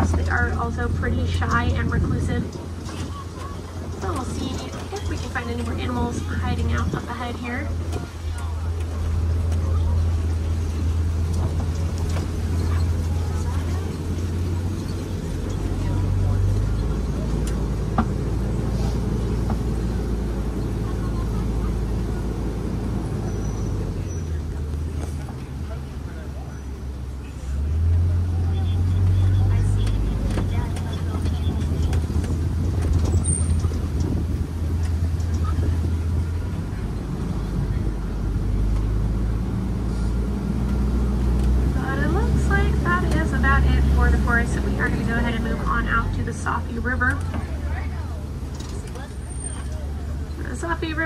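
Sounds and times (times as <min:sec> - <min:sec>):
truck engine and road rumble: 0:00.0 - 0:51.0.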